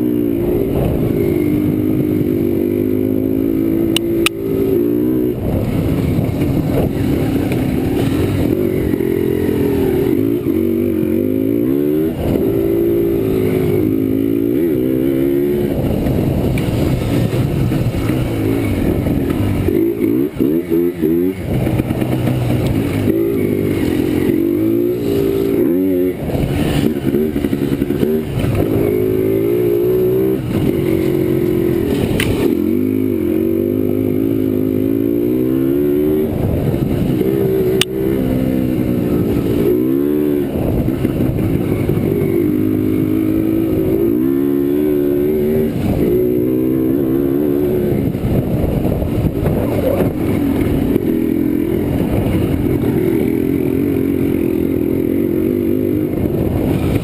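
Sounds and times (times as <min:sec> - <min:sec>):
two-stroke quad engine revving: 0:00.0 - 0:57.0.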